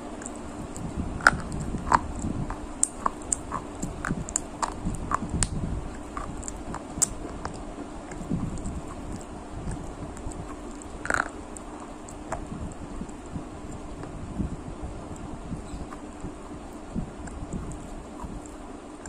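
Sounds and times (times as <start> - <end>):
soft mashing of rice: 0.0 - 19.0
chewing and lip smacks: 0.2 - 14.2, 15.1 - 19.0.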